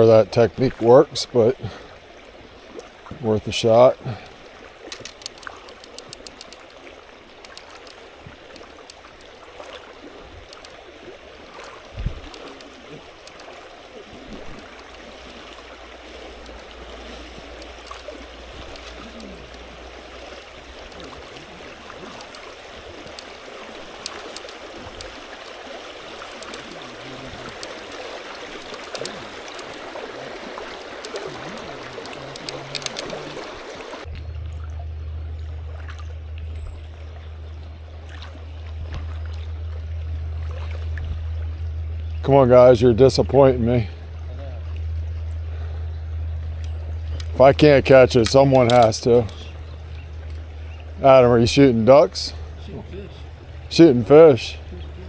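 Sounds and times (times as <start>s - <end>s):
creek water rippling: 0.0s - 55.0s.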